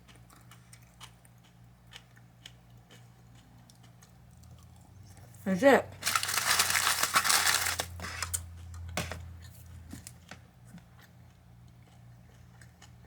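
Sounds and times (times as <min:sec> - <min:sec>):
crunchy chewing: 0:00.0 - 0:05.4, 0:06.0 - 0:09.6, 0:10.6 - 0:13.0.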